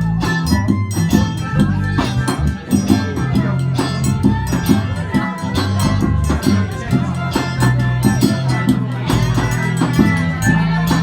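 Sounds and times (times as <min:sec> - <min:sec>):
bass line: 0:00.0 - 0:11.0
drums: 0:00.0 - 0:11.0
shaken percussion: 0:00.0 - 0:11.0.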